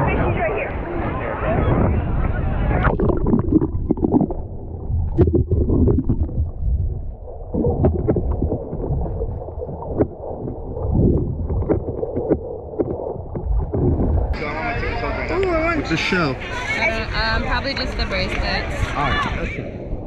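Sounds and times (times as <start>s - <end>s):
muffled underwater water movement: 0.0s - 16.2s.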